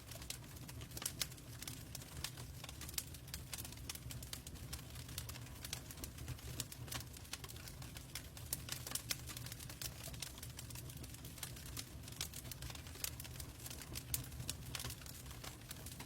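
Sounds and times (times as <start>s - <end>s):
burning wood crackling and popping: 0.0s - 16.0s
fire flames rumbling: 0.1s - 16.0s.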